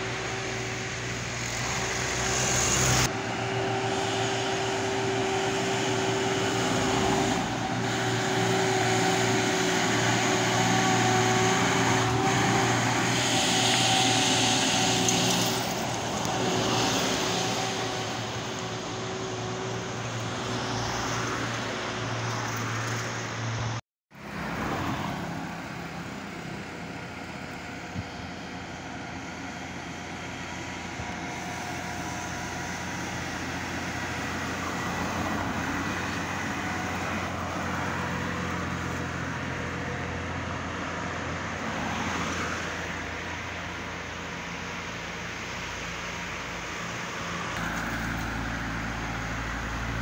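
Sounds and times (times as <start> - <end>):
passing traffic and tyres: 0.0 - 50.0
truck diesel engine: 0.0 - 50.0.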